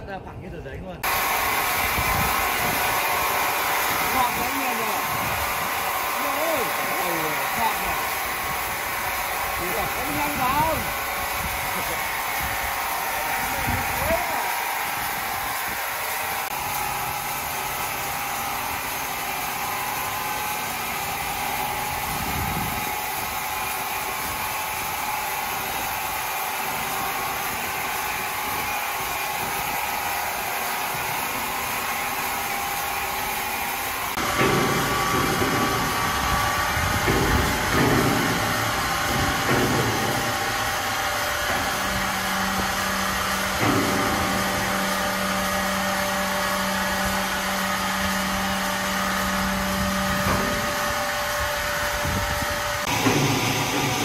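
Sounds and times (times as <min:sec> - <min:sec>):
power saw whirring: 0:01.0 - 0:54.0.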